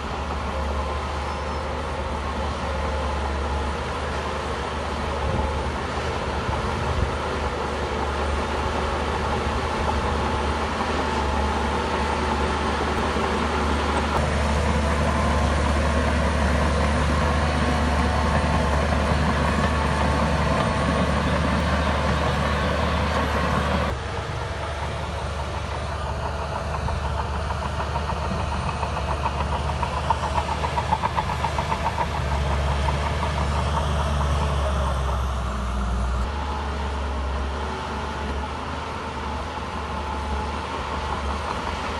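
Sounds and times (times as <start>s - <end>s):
bulldozer diesel engine under load: 0.0s - 41.9s.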